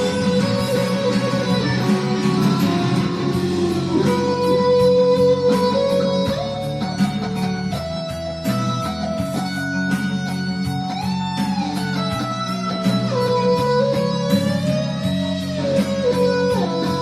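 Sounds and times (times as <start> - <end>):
backing chords and beat: 0.0 - 17.0
electric guitar lead melody: 0.0 - 17.0.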